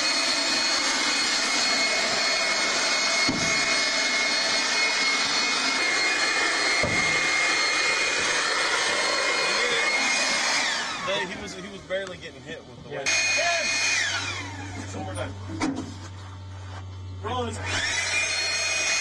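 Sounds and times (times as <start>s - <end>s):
blower rushing air with high whine: 0.0s - 19.0s.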